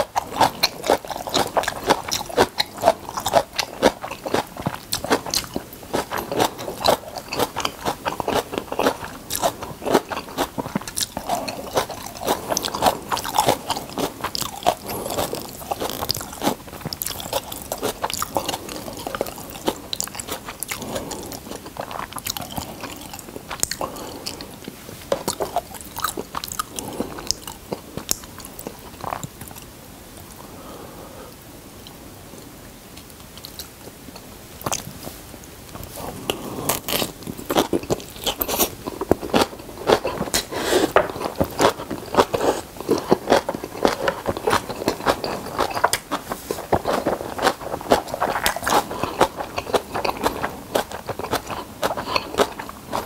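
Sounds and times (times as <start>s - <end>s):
crunchy chewing: 0.0s - 30.8s, 32.9s - 53.0s.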